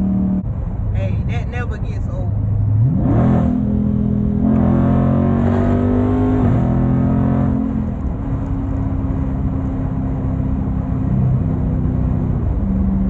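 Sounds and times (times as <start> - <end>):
car engine accelerating: 0.0 - 0.8, 2.4 - 13.0.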